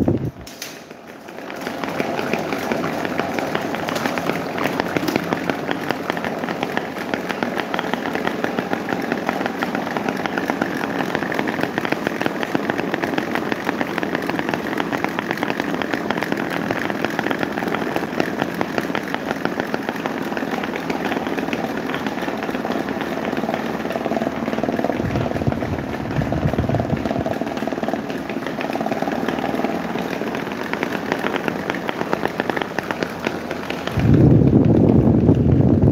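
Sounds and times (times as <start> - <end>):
electric fans whirring: 0.0 - 35.9
fan rattling ticks: 0.0 - 35.9.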